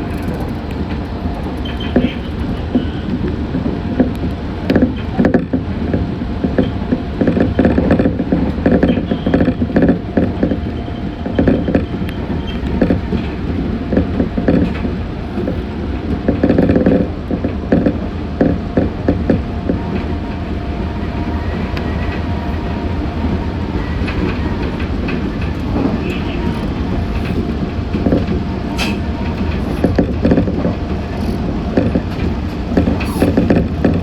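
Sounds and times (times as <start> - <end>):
train running rumble: 0.0 - 34.0
wheels clattering over rail joints: 0.0 - 34.0.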